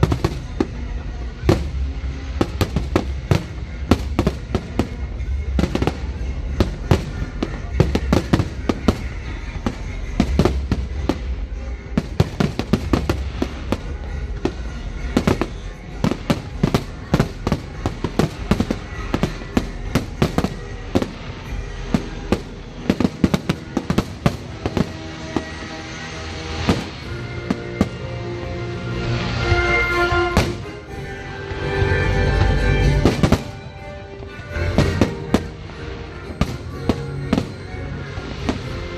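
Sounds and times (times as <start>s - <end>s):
faint music: 0.0s - 38.9s
fireworks bangs and crackling: 0.0s - 38.9s.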